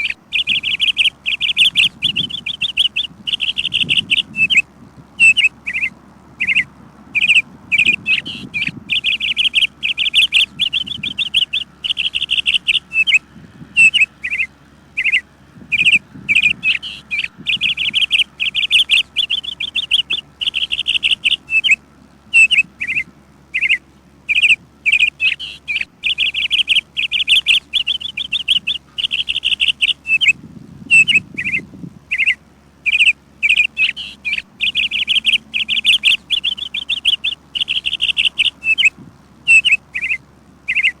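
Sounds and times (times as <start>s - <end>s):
birds chirping and trilling: 0.0s - 41.0s.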